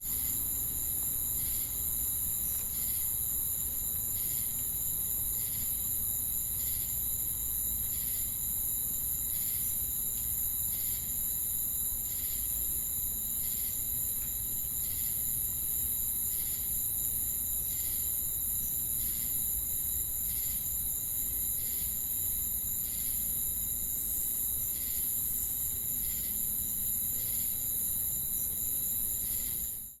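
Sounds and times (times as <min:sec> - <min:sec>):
cricket trill: 0:00.0 - 0:30.0.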